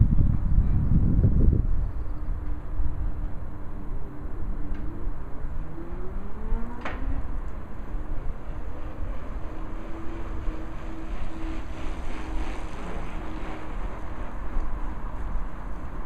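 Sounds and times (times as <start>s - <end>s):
distant motor drone: 0.0s - 16.0s
wind rumbling on microphone: 0.0s - 16.0s.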